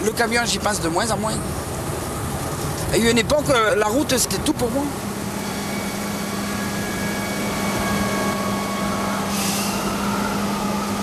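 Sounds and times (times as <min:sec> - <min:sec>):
road noise: 0:00.0 - 0:11.0
truck engine droning: 0:00.0 - 0:11.0.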